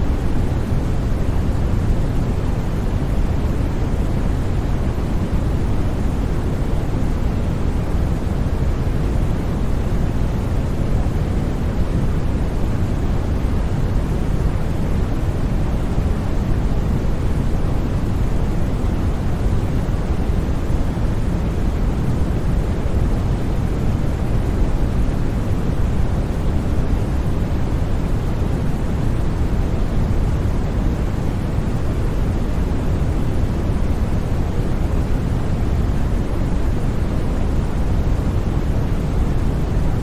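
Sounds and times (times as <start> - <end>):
deep white noise hiss: 0.0 - 40.0.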